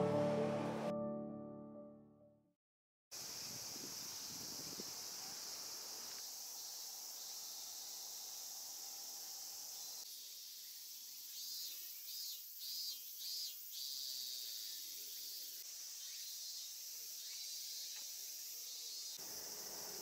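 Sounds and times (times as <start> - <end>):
high-pitched insect chorus: 3.2 - 20.0
loud pulsing insect calls: 3.2 - 20.0.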